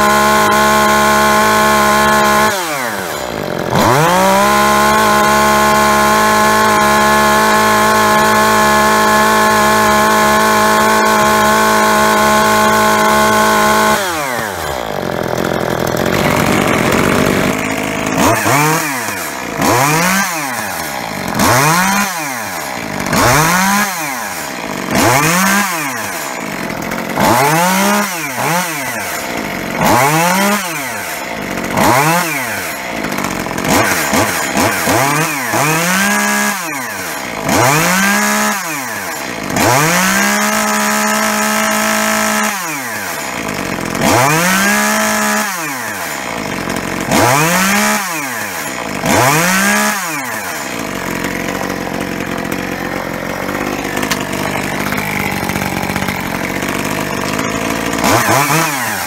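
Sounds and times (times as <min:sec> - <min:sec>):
chainsaw engine revving and idling: 0:00.0 - 0:59.0.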